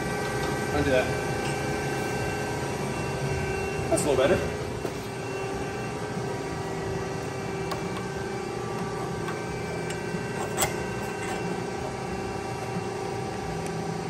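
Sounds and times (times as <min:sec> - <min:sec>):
shop machinery hum: 0:00.0 - 0:14.0.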